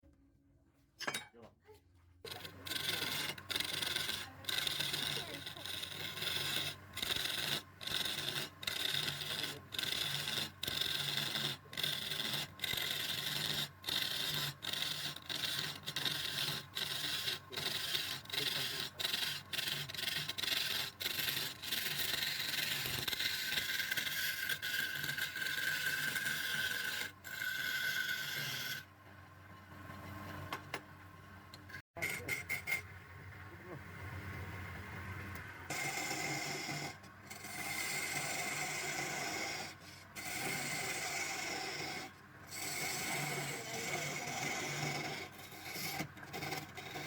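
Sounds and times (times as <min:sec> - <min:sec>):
tool scraping wood: 0:02.3 - 0:28.9, 0:32.0 - 0:32.9, 0:35.7 - 0:47.0.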